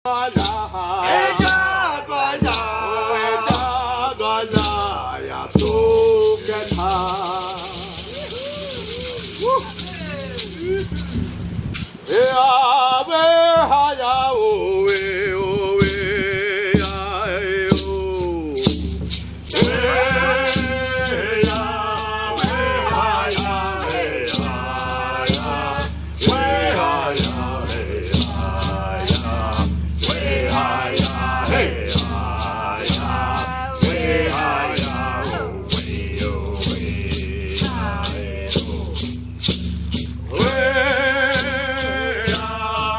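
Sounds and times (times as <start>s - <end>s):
person chanting: 0.1s - 11.0s, 12.1s - 18.9s, 19.5s - 39.1s, 40.3s - 42.9s
maraca shaken in a beat: 0.1s - 42.9s.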